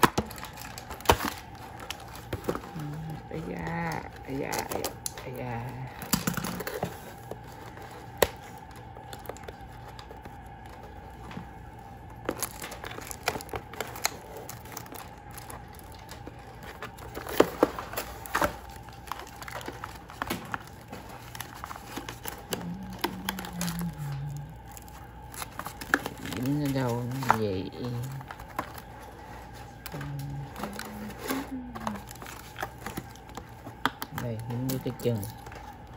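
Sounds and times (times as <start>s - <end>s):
packing tape ripping: 0.0s - 5.2s, 12.0s - 35.8s.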